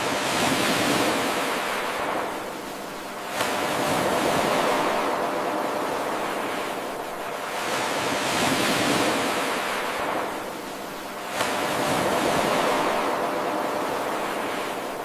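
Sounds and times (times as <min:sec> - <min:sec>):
ocean wave washing in: 0:00.0 - 0:15.0.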